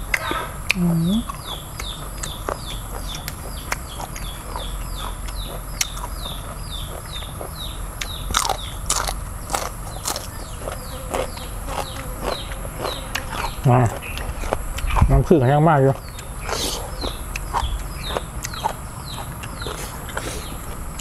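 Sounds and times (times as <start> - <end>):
bird chirping: 0.0 - 21.0
crunching of eating snails: 0.0 - 21.0.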